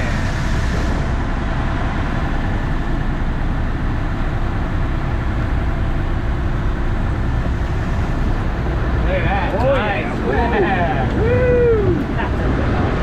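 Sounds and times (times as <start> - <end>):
boat motor rumbling: 0.0 - 13.0
water wash: 0.0 - 13.0.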